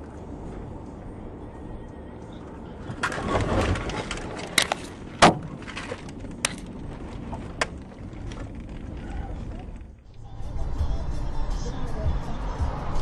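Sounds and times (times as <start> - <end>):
low road noise: 0.0 - 13.0.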